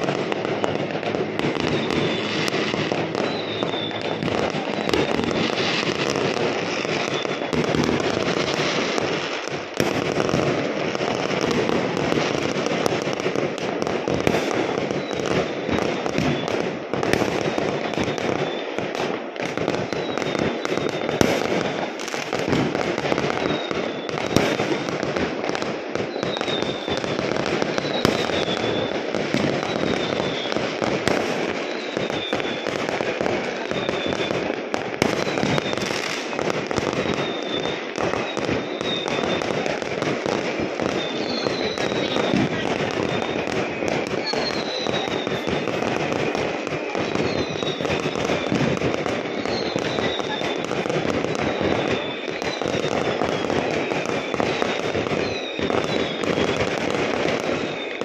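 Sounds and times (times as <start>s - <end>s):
firework whistles: 0.0s - 58.0s
fireworks banging and crackling: 0.0s - 58.0s.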